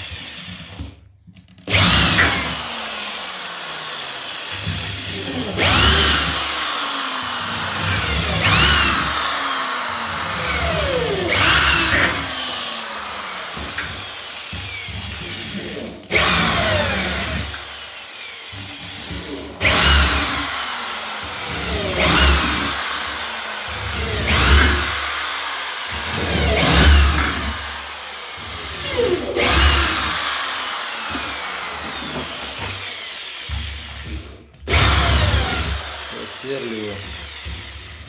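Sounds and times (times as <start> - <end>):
electric drill boring into wood: 0.0 - 38.0.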